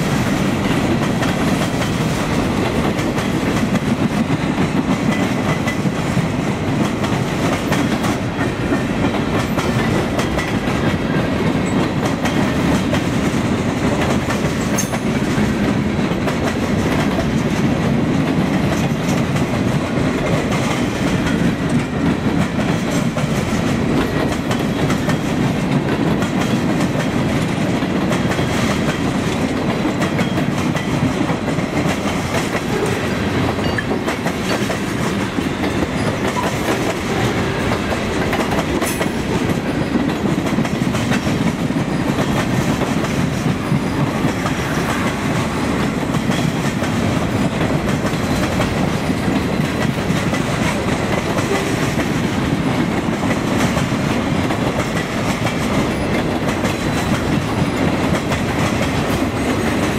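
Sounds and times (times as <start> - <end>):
clicking clatter of train wheels: 0.0 - 59.9
steel wheels rumbling on rails: 0.0 - 59.9.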